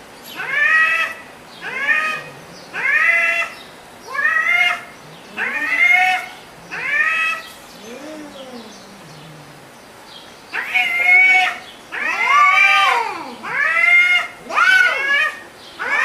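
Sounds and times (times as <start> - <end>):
cat yowling: 0.4 - 3.5, 4.1 - 8.7, 10.6 - 16.0.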